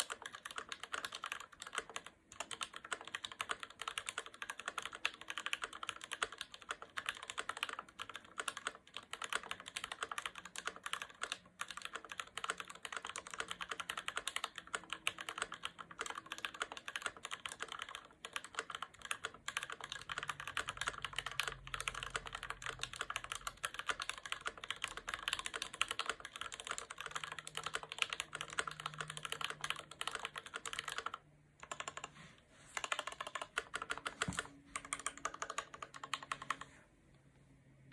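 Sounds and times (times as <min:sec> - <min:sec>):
fast mechanical keyboard typing: 0:00.0 - 0:32.1, 0:32.8 - 0:36.7.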